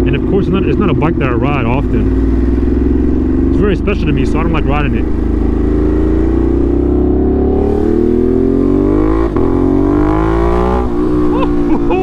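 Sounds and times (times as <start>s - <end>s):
motorcycle engine accelerating hard: 0.0s - 12.0s.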